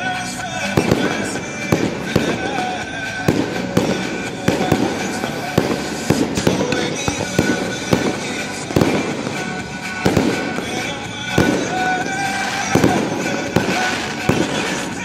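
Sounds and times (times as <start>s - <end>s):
firework bangs: 0.0s - 15.0s
fireworks crackling: 0.0s - 15.0s
music: 0.0s - 15.0s.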